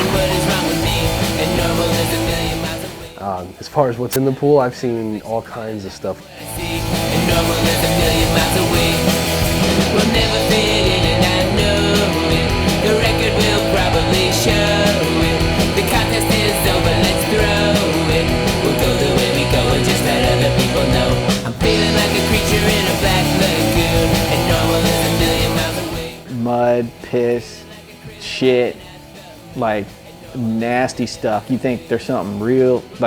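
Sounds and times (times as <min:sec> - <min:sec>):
punk rock music: 0:00.0 - 0:33.0.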